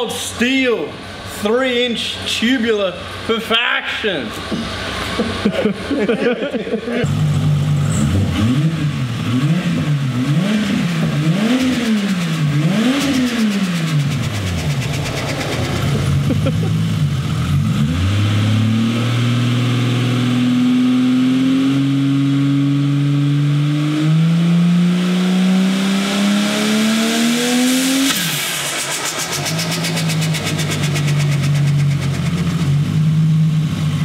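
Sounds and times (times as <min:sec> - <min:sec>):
car engine revving: 0:06.8 - 0:34.0.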